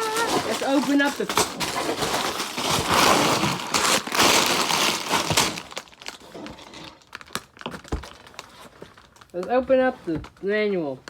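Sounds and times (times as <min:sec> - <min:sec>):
plastic wrapping crinkling and tearing: 0:00.0 - 0:09.6.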